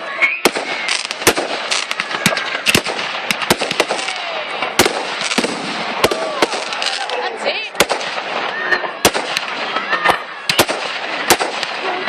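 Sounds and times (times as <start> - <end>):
firework bangs: 0.0 - 12.0
firework crackle: 0.0 - 12.0.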